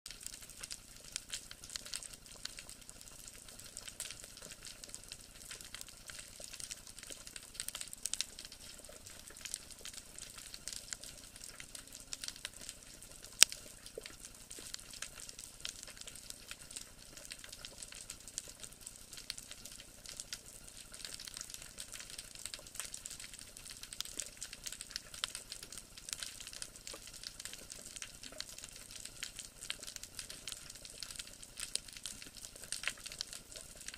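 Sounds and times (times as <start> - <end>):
underwater crackling: 0.1 - 33.9.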